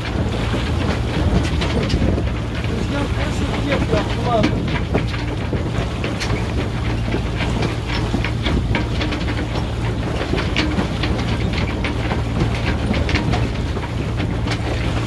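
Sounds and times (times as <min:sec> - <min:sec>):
low engine drone: 0:00.0 - 0:15.0
water slapping against hull: 0:00.0 - 0:15.0.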